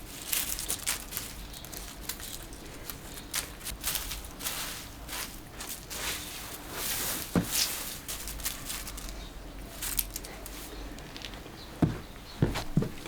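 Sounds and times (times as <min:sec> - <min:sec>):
rustling and shuffling: 0:00.0 - 0:13.0.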